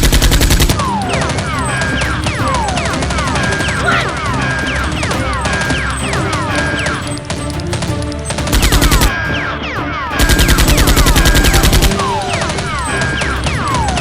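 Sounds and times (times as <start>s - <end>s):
automatic gunfire: 0.0s - 9.2s, 10.2s - 14.0s
action music: 0.0s - 14.0s.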